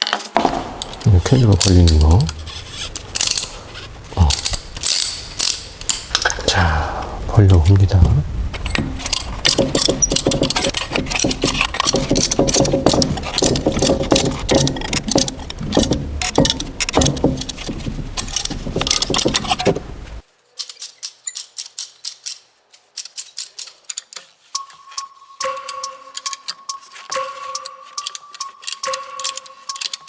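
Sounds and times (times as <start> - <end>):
metallic clicking of tools and brake parts: 0.0 - 30.0.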